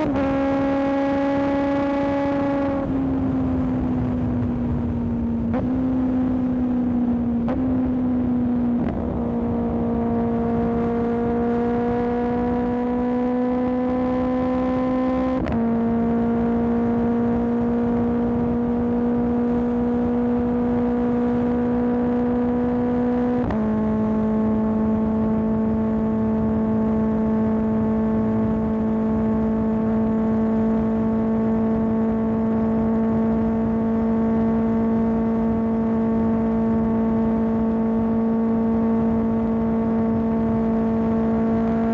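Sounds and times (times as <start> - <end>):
motorcycle engine revving with upshifts: 0.0 - 41.9.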